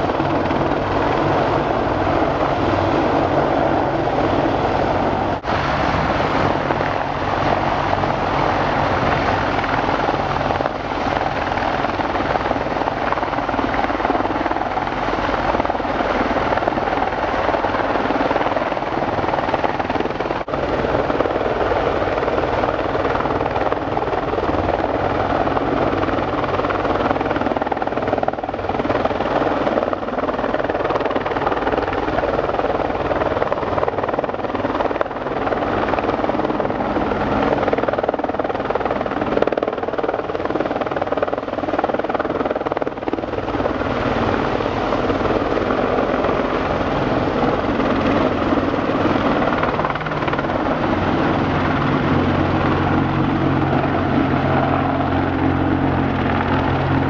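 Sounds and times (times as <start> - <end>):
helicopter flying low: 0.0 - 57.0.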